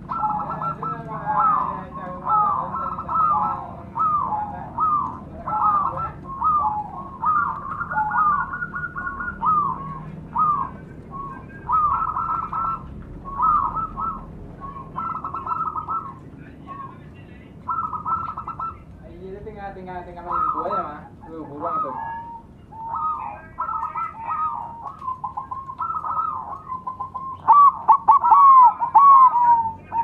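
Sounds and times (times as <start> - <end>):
doves cooing: 0.0 - 30.0.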